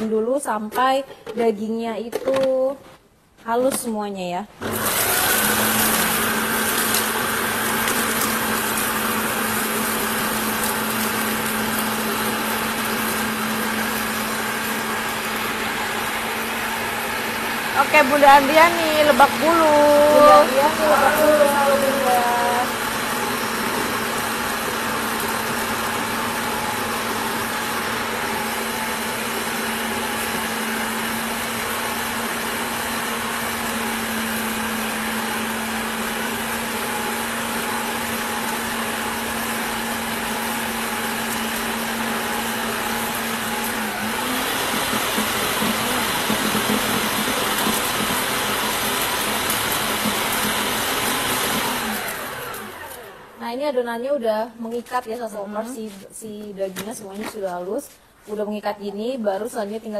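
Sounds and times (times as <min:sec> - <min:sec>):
food processor motor grinding: 0:04.6 - 0:54.2.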